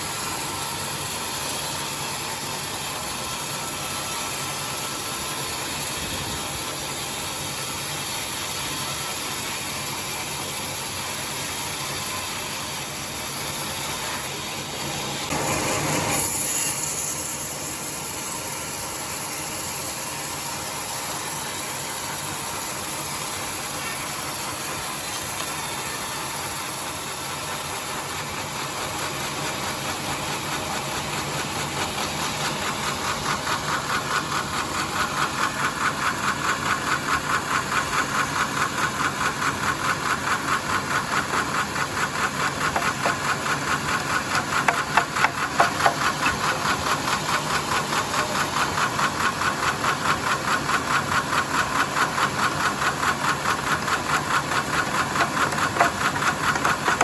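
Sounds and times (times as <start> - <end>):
sawmill saw ripping timber: 0.0 - 57.0.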